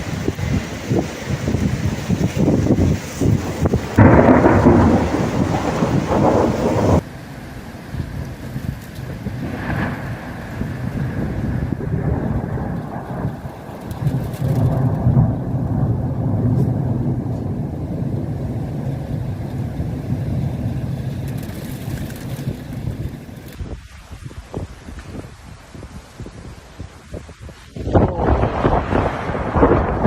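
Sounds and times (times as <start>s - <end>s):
rolling rumble of thunder: 0.0s - 7.1s, 7.7s - 24.6s, 27.2s - 30.0s.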